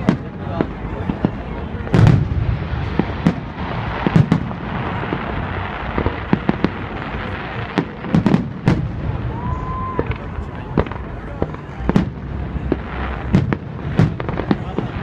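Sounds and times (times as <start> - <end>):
background rumble and hiss: 0.0 - 15.0
fireworks bangs: 0.0 - 15.0.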